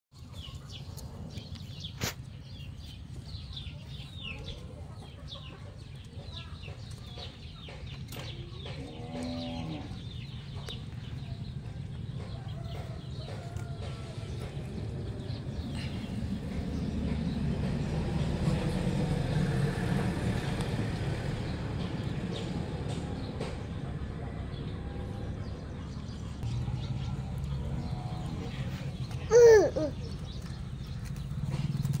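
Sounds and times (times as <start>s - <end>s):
small birds chirping: 0.1s - 32.0s.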